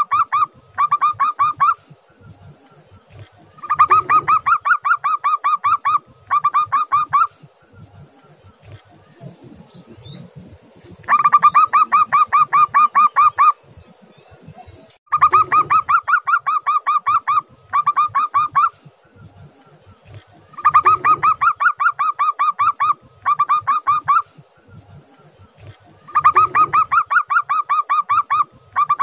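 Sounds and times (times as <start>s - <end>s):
dove calling in staccato notes: 0.0s - 13.8s, 15.1s - 29.0s.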